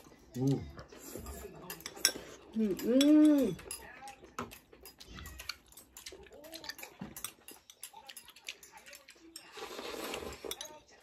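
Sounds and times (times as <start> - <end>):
chopsticks and spoons clicking bowls: 0.0 - 11.0.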